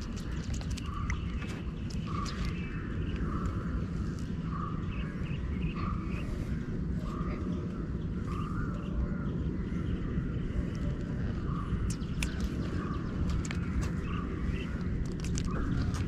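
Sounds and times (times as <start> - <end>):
birds calling: 0.0 - 16.0
steady low rumble: 0.0 - 16.0.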